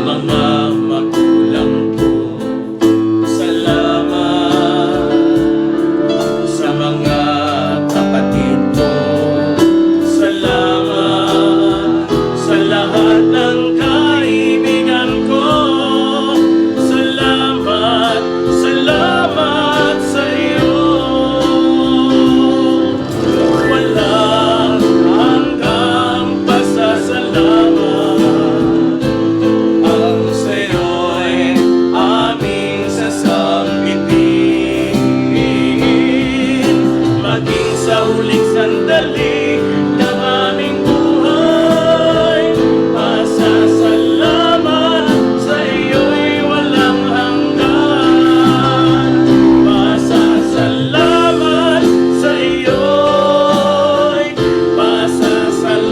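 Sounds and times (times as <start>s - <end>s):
instrumental accompaniment: 0.0s - 55.9s
person singing: 0.0s - 55.9s.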